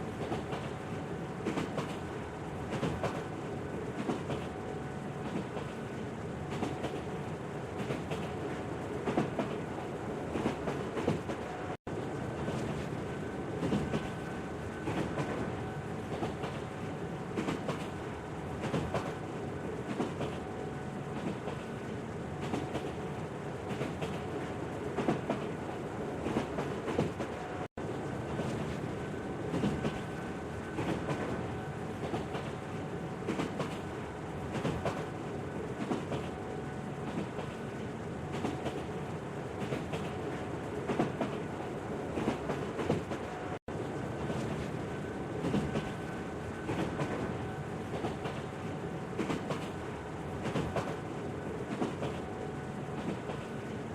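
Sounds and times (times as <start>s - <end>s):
train rumbling on track: 0.0s - 53.9s.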